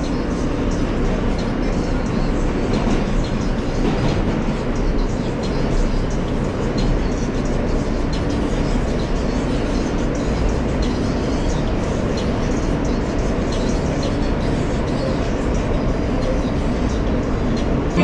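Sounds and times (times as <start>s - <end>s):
subway train rumbling on track: 0.0s - 18.0s.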